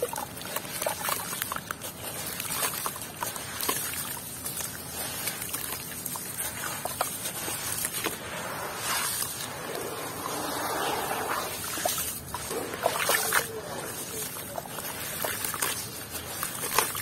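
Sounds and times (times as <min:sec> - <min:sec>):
grit crackles: 0:00.0 - 0:17.0
water sloshing and swirling: 0:00.0 - 0:17.0
wet squelching: 0:00.0 - 0:17.0.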